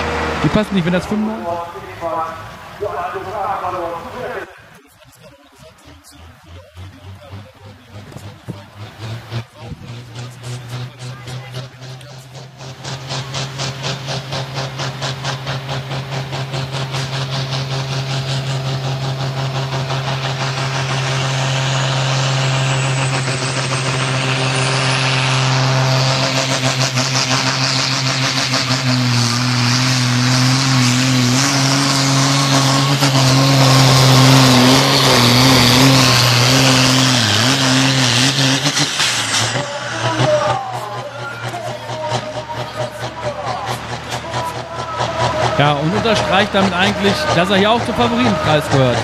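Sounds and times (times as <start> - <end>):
tractor diesel engine at full throttle: 0.0 - 49.0.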